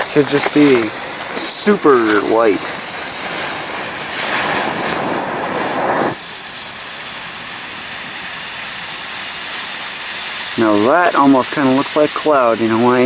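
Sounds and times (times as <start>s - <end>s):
smoke firework hissing: 0.0s - 13.0s.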